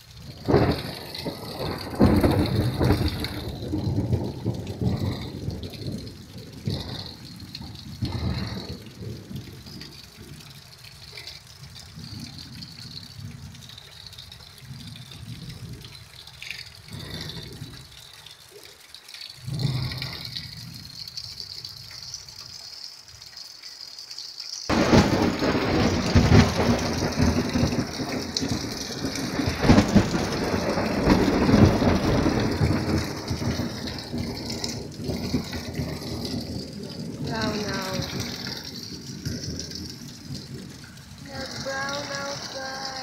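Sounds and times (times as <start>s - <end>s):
thunder rumbling: 0.0s - 18.0s, 19.4s - 21.9s, 24.7s - 43.0s
rain falling: 0.0s - 43.0s.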